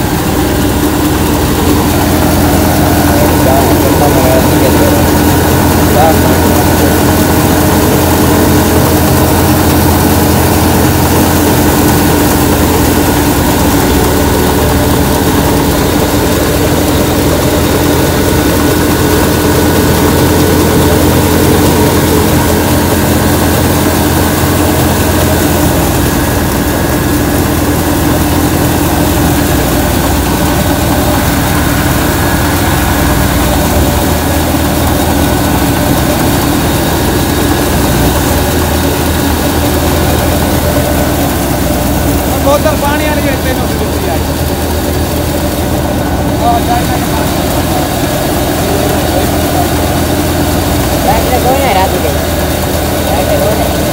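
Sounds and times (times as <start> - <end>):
threshing machine running: 0.0 - 53.9.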